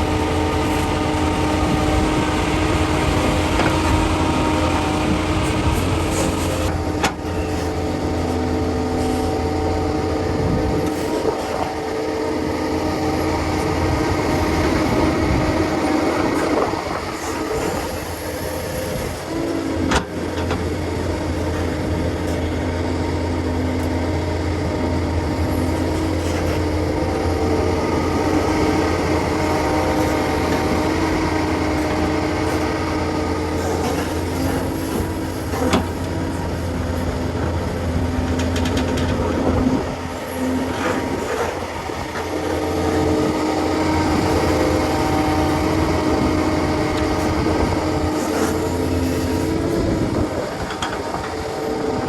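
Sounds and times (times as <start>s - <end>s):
heavy machinery engines running: 0.0s - 52.0s.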